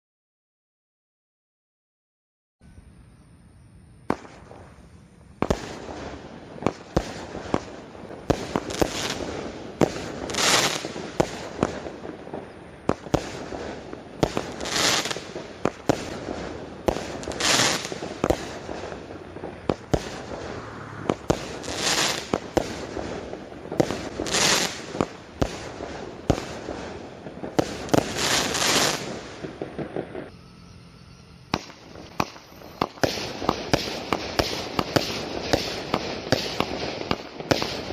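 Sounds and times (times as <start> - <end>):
fireworks sharp bangs: 4.0 - 30.3, 31.5 - 37.9
fireworks crackling: 4.0 - 30.4, 31.4 - 37.9
fireworks hissing rush: 4.1 - 30.3, 31.4 - 37.9.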